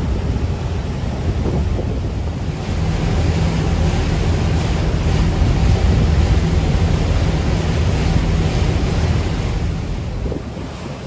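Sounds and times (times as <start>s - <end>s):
boat engine low rumble: 0.0s - 11.0s
water rushing past hull: 0.0s - 11.0s
wind buffeting microphone: 0.0s - 11.0s.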